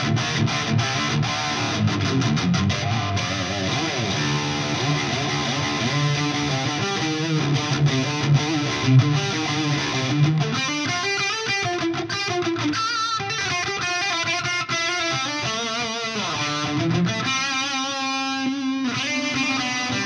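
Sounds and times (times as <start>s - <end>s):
electric guitar lead line: 0.0s - 20.0s.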